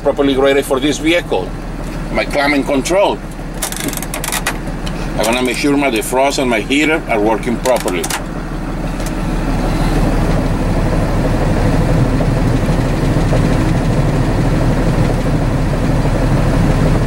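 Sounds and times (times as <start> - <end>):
blower fan rushing air: 0.0 - 17.0
engine idling: 0.0 - 17.0.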